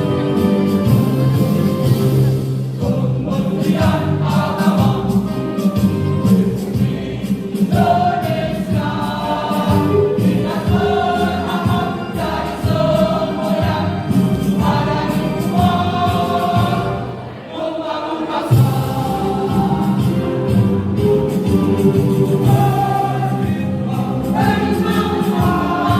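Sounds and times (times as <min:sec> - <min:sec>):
school choir singing: 0:02.8 - 0:25.9.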